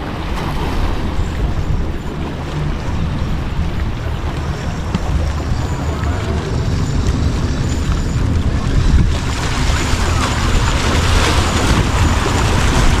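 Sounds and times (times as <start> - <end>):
small waves washing against rocks: 0.0 - 13.0
wind buffeting microphone: 0.0 - 13.0.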